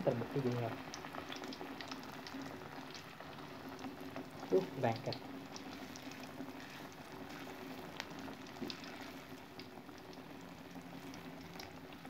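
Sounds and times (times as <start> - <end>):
oil popping and crackling: 0.0 - 12.0
tofu sizzling in hot oil: 0.0 - 12.0.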